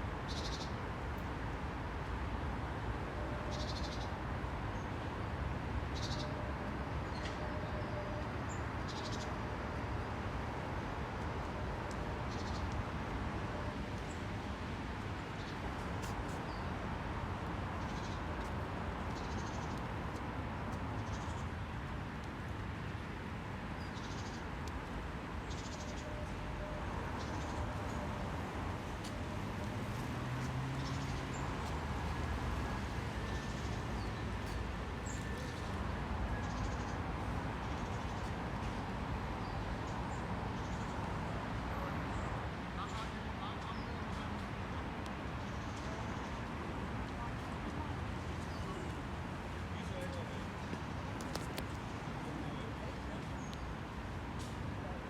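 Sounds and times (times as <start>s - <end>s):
outdoor background rush: 0.0s - 55.0s.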